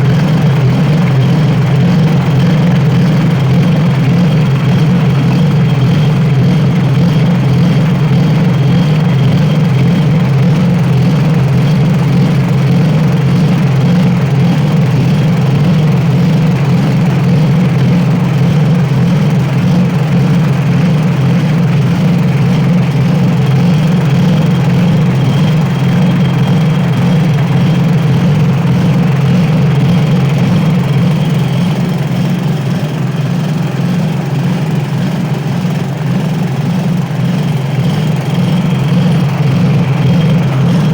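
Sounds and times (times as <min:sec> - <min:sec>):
petrol engine running steadily: 0:00.0 - 0:40.9.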